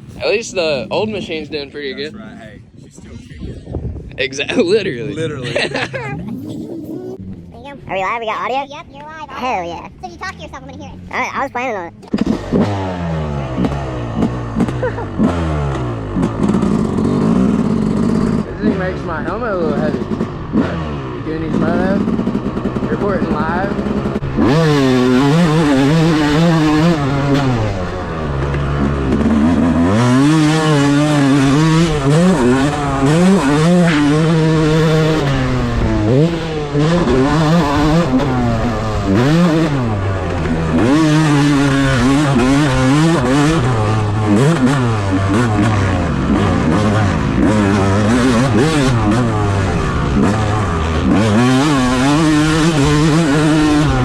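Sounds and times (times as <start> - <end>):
dirt bike engine revving: 9.3 - 54.0.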